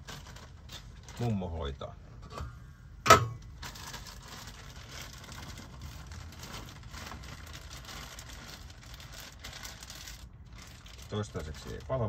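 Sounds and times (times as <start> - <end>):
plastic bag crinkling: 0.0 - 1.6, 3.4 - 12.0.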